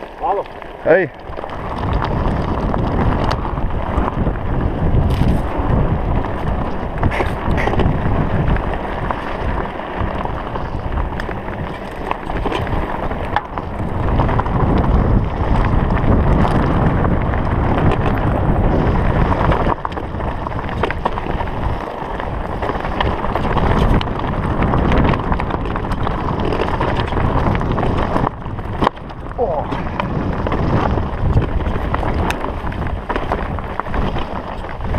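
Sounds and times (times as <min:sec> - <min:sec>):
bike tyres rattling over stones: 0:00.0 - 0:34.9
wind rushing over microphone: 0:00.0 - 0:34.9.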